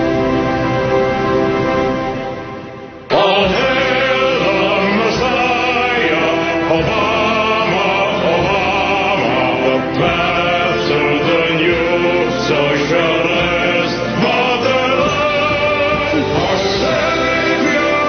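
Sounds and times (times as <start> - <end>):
held chord: 0.0 - 18.0
chant-like singing with music: 3.0 - 18.0.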